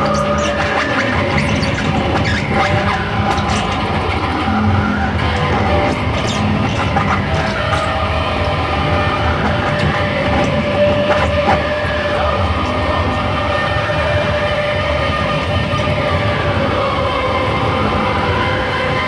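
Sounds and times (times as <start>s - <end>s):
distorted noise music: 0.0s - 19.0s
held drifting tones: 0.0s - 19.0s.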